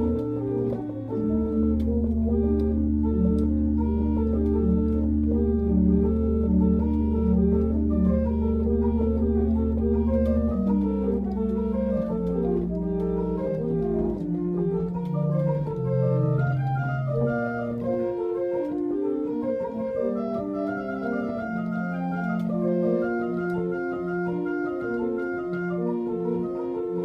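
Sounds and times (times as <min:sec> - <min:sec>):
upright piano playing: 0:00.0 - 0:27.0.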